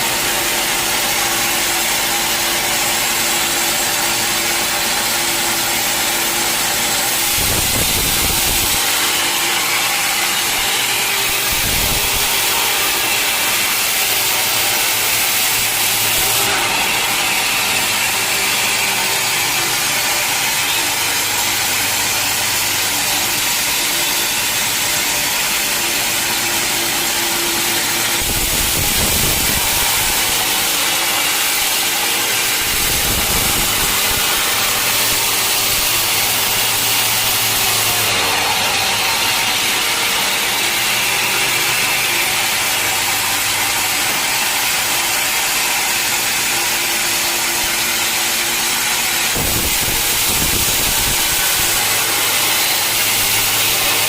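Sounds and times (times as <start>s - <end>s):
sawmill engine and saw blade: 0.0s - 54.0s.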